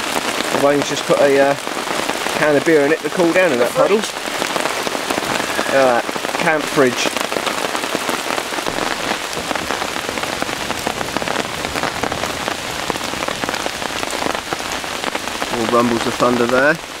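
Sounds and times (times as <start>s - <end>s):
heavy rain on foliage: 0.0s - 17.0s.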